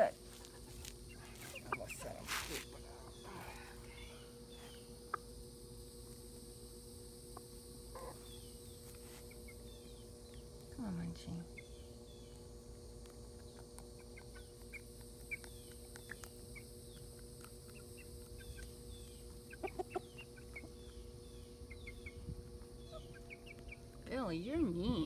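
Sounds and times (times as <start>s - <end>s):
chickens clucking: 0.3s - 5.6s, 7.2s - 10.7s, 11.5s - 24.1s.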